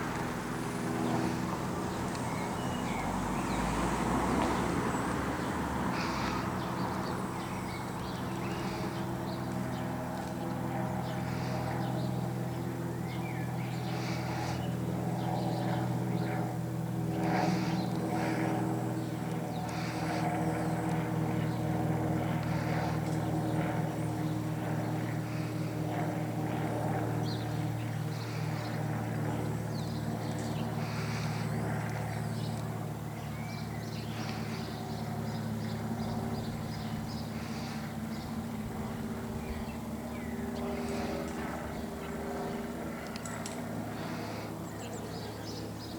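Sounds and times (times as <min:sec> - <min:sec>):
propeller plane droning overhead: 0:00.0 - 0:45.9.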